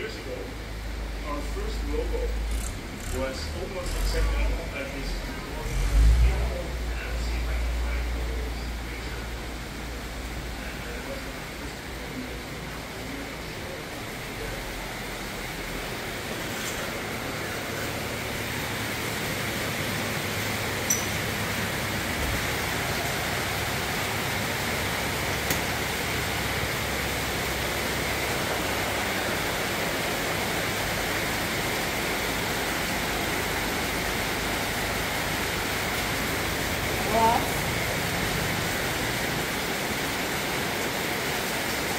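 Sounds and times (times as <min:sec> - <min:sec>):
heavy rain on metal roof: 0:00.0 - 0:41.9.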